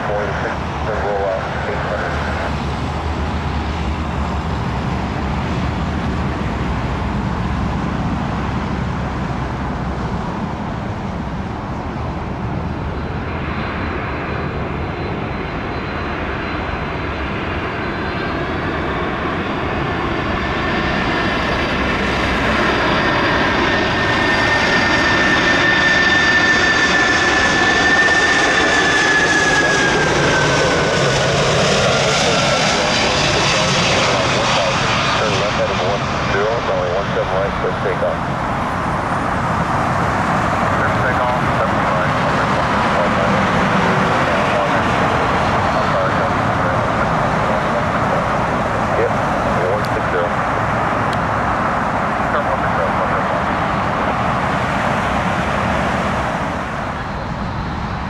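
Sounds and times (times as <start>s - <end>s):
high jet engine whine: 0.0s - 58.0s
jet engines rumbling: 0.0s - 58.0s.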